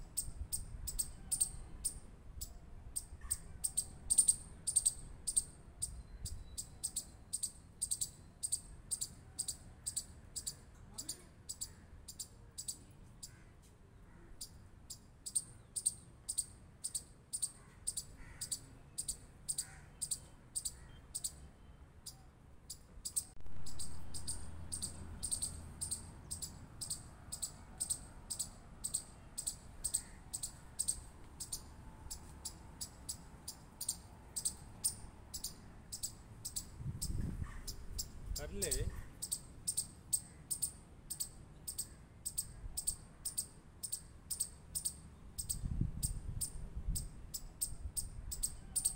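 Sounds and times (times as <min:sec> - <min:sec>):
chipmunk chip call: 0:00.0 - 0:13.5, 0:14.1 - 0:48.9.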